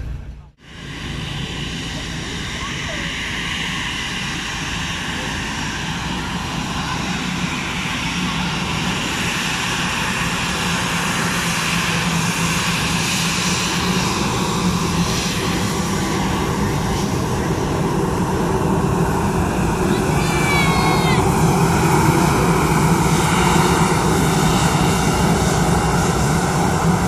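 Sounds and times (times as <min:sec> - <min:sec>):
jet engines humming and hissing: 0:00.0 - 0:27.0.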